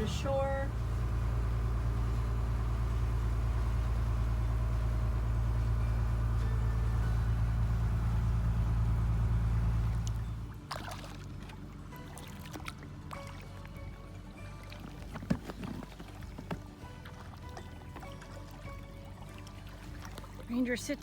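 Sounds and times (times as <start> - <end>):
boat diesel engine drone: 0.0 - 21.0.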